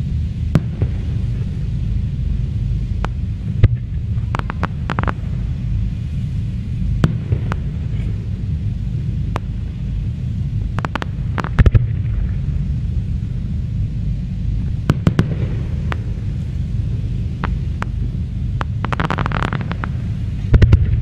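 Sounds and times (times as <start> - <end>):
fireworks bangs and cracks: 0.0 - 8.7, 9.3 - 13.3, 14.6 - 21.0
steady low rumble: 0.0 - 21.0.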